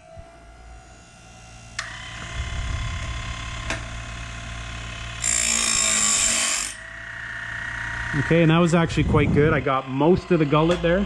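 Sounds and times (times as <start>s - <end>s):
sharpener motors humming and whining: 0.0s - 11.0s.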